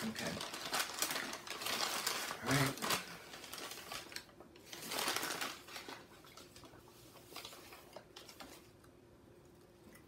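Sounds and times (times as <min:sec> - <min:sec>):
paper bag rustling: 0:00.0 - 0:08.8.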